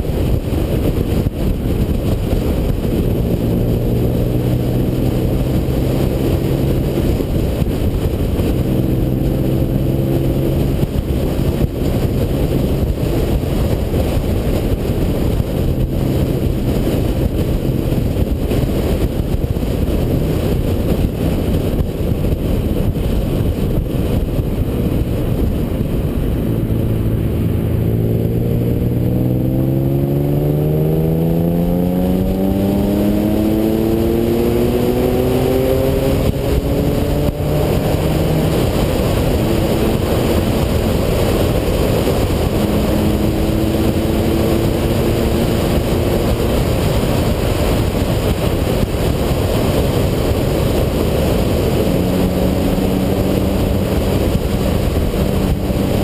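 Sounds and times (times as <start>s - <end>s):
car engine accelerating: 0.0s - 56.0s
wind and road noise: 0.0s - 56.0s.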